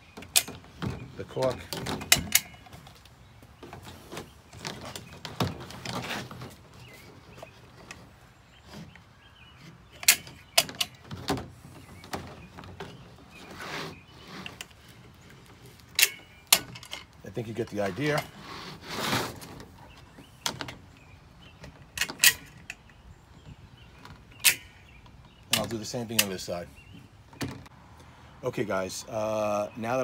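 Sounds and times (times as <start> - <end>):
vinyl siding clicks and rustling: 0.0 - 27.8.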